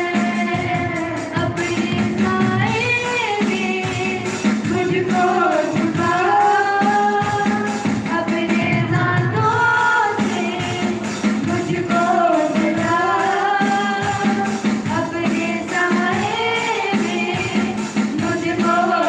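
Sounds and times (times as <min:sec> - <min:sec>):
worship song sung over a pa: 0:00.0 - 0:19.0.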